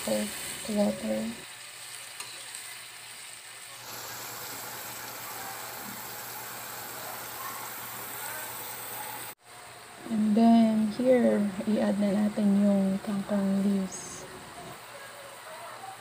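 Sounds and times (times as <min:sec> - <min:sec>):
vegetables sizzling in a wok: 0:00.0 - 0:15.4.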